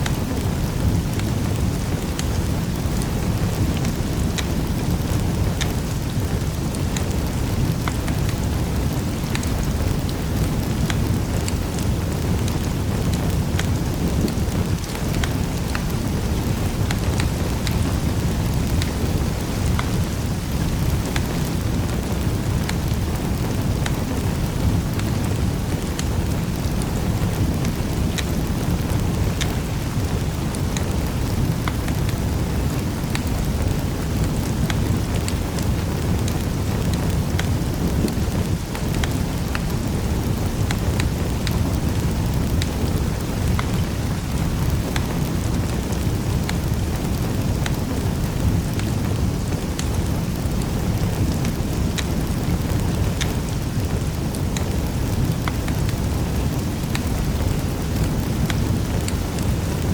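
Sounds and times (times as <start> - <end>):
fire crackles and pops: 0.0 - 59.9
fire rumbling: 0.0 - 59.9.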